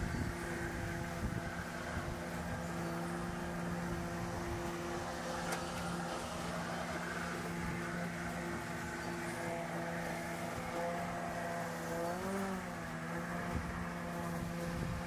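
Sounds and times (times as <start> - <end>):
electric lawn mower humming: 0.0 - 15.0.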